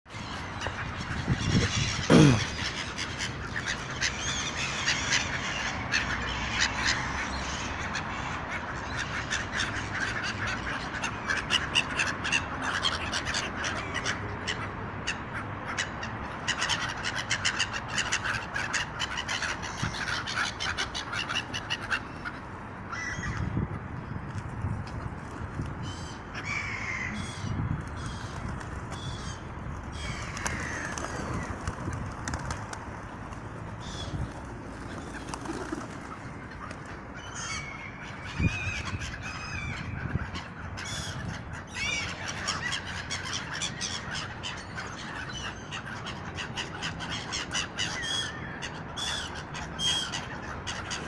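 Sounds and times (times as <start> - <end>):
birds cawing: 0.1 - 23.6, 25.8 - 32.6, 33.7 - 51.0
flock of birds calling: 0.1 - 23.6, 25.0 - 51.0.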